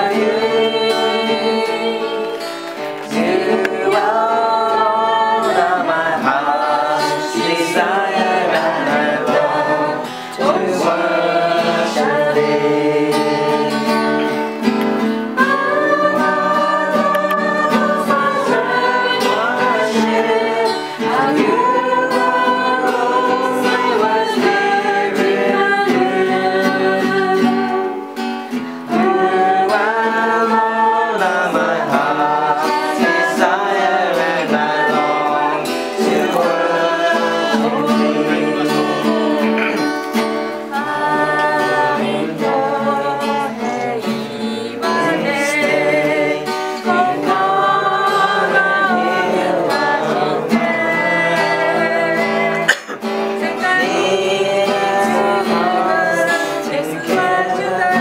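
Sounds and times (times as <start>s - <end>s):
group singing a worship song: 0.0s - 58.0s
strummed acoustic guitar: 0.0s - 58.0s.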